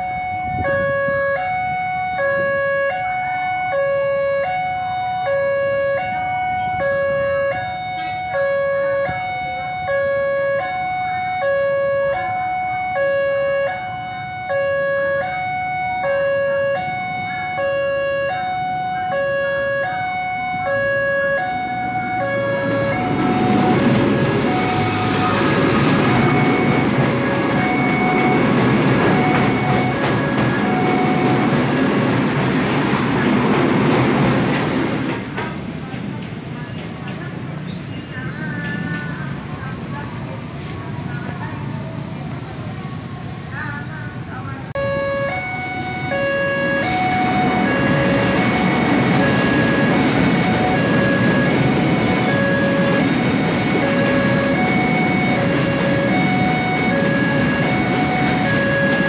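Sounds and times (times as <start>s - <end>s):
two-tone crossing alarm: 0.0s - 35.1s, 44.7s - 59.0s
train rumble and wheel clatter: 0.0s - 59.0s.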